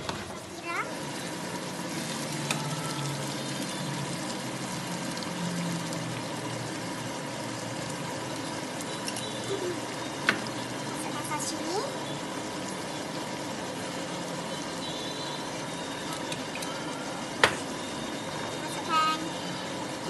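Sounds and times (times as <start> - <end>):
sauce sizzling in frying pan: 0.0 - 20.0.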